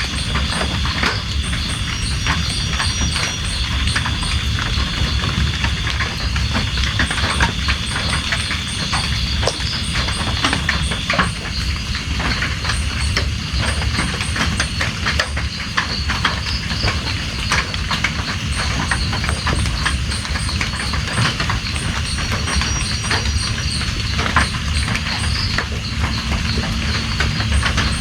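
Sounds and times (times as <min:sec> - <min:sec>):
rain drops tapping: 0:00.0 - 0:28.0.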